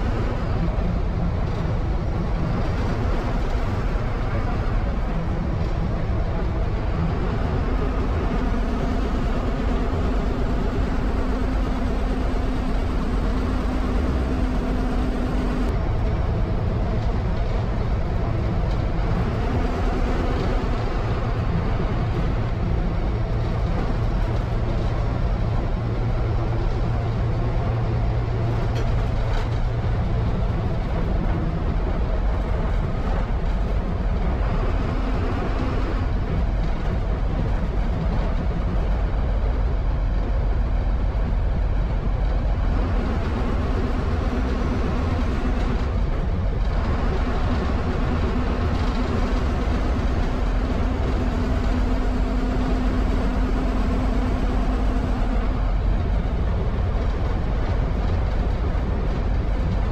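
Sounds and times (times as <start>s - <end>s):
bus diesel engine running: 0.0s - 59.9s
road and tyre noise: 0.0s - 59.9s.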